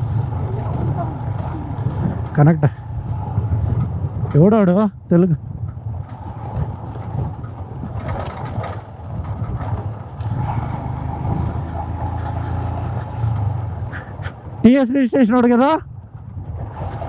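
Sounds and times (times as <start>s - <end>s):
motorcycle engine running: 0.0s - 4.6s, 5.4s - 15.1s
wind and road noise: 0.0s - 17.0s.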